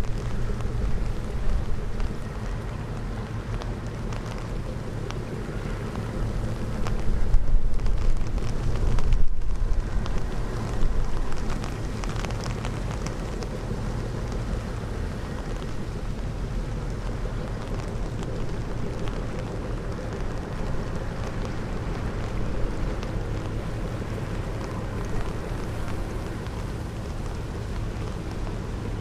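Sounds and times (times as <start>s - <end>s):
diesel engine rumbling: 0.0s - 29.0s
wind buffeting microphone: 0.0s - 29.0s.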